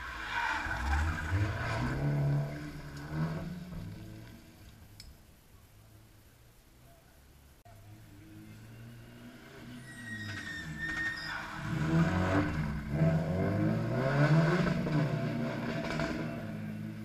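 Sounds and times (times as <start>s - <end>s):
rally car engine revving: 0.0s - 4.6s, 7.9s - 17.0s.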